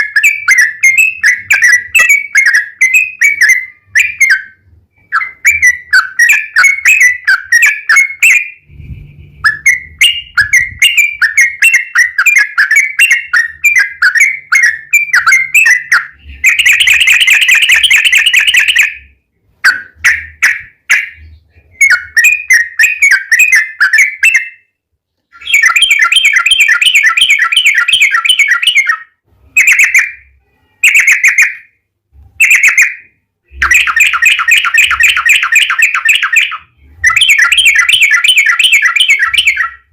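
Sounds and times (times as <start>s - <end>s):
bulbul singing: 0.0s - 31.8s, 32.4s - 39.9s.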